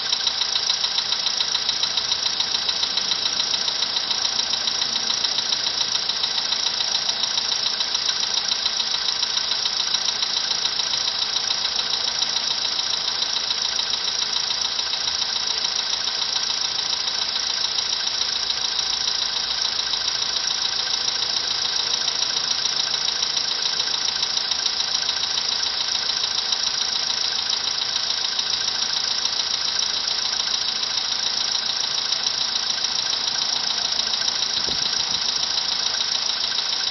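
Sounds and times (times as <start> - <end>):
car engine idling with rapid knocking: 0.0 - 36.9.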